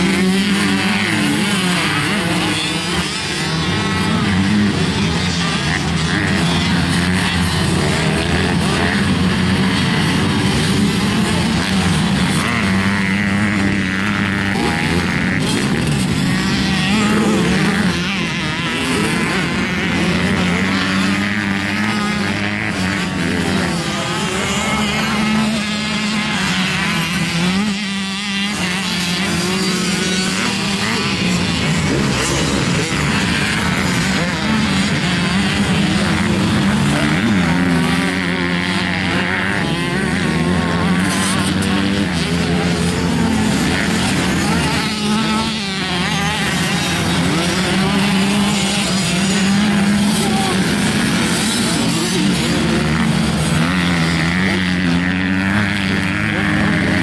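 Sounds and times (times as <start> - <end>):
motocross bikes revving: 0.0 - 57.0.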